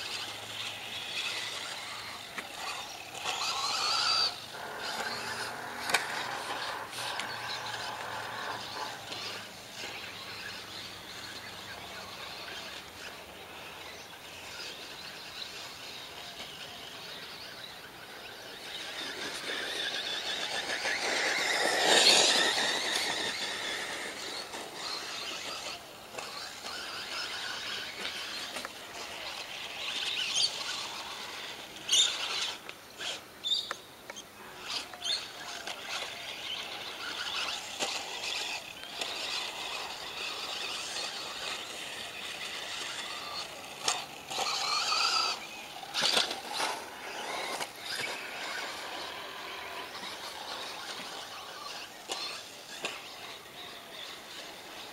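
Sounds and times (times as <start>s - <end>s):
radio-controlled car motor whining: 0.0s - 54.9s.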